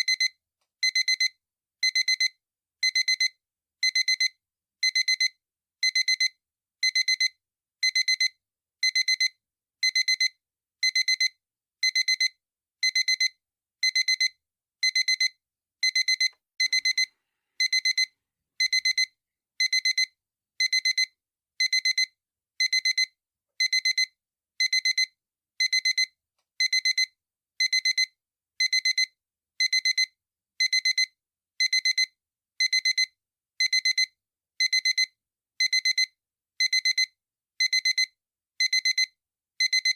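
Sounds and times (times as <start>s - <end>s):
digital alarm clock beeping: 0.0s - 39.9s.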